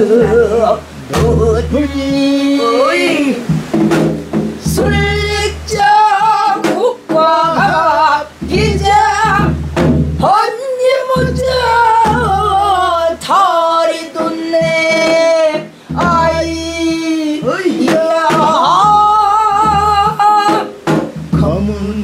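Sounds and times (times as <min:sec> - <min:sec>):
woman singing folk song: 0:00.0 - 0:03.7, 0:04.6 - 0:22.0.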